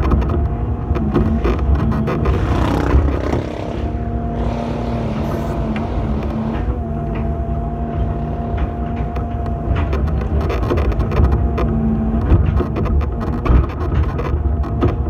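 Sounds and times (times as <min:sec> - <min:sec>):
diesel engine low rumble: 0:00.0 - 0:15.0
steady engine whine: 0:00.0 - 0:15.0.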